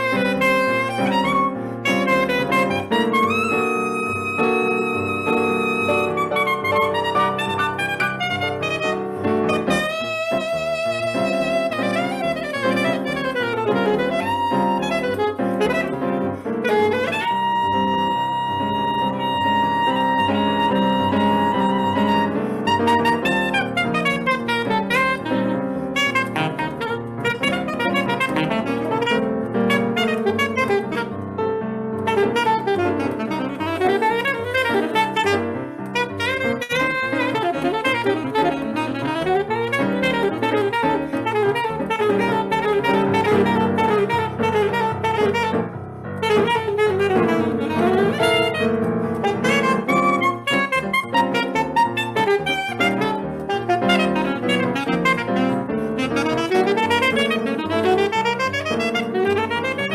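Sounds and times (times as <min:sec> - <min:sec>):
piano accompaniment: 0:00.0 - 0:59.9
saxophone playing jazz: 0:00.0 - 0:59.9.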